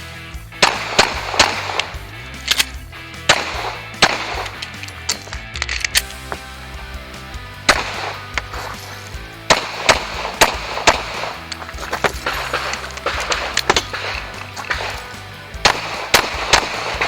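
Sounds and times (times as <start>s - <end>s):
music with steady beat: 0.0s - 17.0s
handgun shots: 0.6s - 6.4s, 7.7s - 17.0s.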